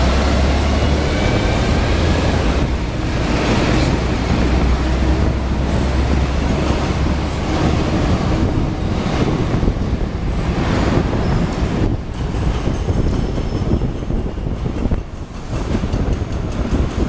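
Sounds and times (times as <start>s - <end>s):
tram wheels rumbling: 0.0s - 17.0s
wind on microphone: 0.0s - 17.0s.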